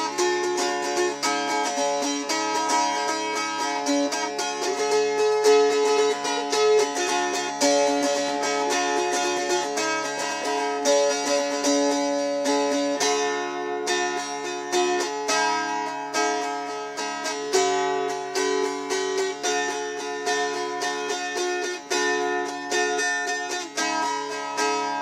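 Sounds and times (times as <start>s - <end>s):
mountain dulcimer strummed: 0.0s - 25.0s.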